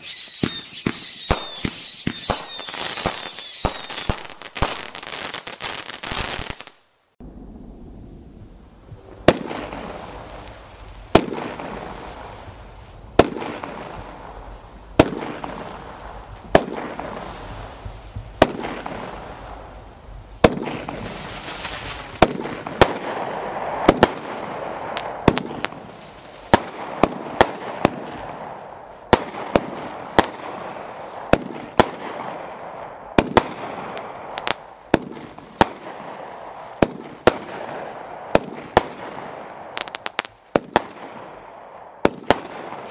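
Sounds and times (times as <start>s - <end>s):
hiss and crackle of aerial bursts: 0.0s - 7.1s, 8.4s - 41.0s
fireworks shots: 0.0s - 7.7s, 8.8s - 42.9s.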